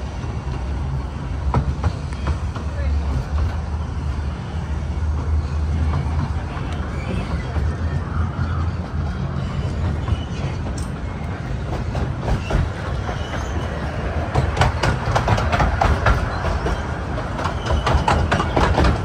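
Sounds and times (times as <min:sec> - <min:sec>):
train carriages rumbling: 0:00.0 - 0:19.0
wheels clicking over rail joints: 0:00.0 - 0:19.0.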